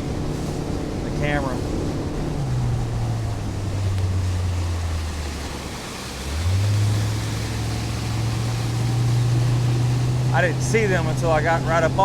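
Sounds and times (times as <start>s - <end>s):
motorboat engine running: 0.0s - 12.0s
water noise: 0.0s - 12.0s
wind: 0.0s - 12.0s.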